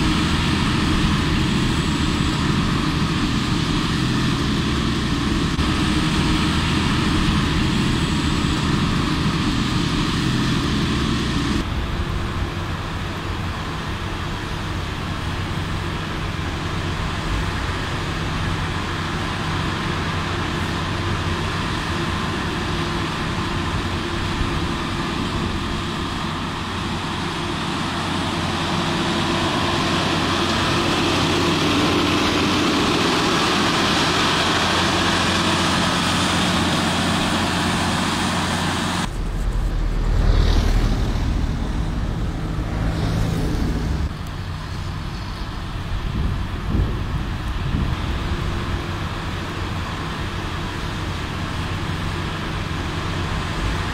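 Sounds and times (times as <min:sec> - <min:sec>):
diesel engines running: 0:00.0 - 0:53.9
road traffic: 0:00.0 - 0:53.9.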